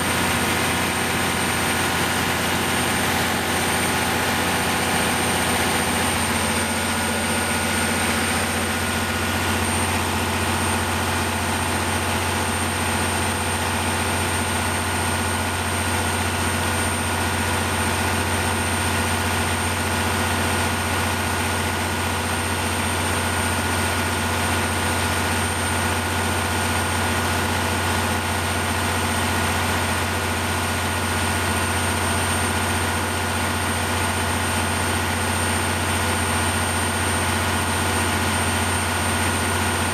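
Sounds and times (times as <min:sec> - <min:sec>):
generator engine hum: 0:00.0 - 0:39.9.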